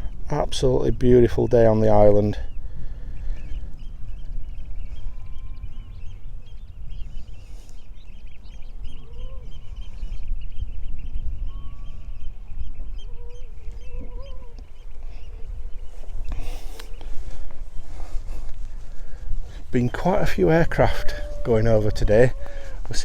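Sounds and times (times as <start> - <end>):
oystercatchers piping: 1.1 - 23.0
lower gliding bird calls: 2.4 - 23.0.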